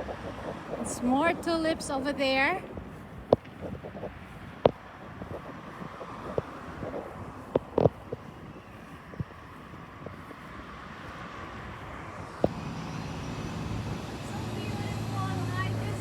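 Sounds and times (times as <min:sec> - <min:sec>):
steady outdoor rush: 0:00.0 - 0:16.0.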